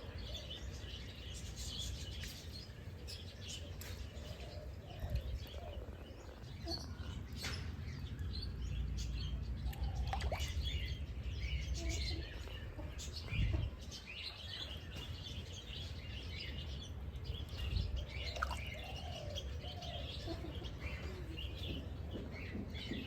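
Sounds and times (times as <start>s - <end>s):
wild birds chirping: 0.0s - 23.0s
low outdoor rumble: 4.0s - 23.0s.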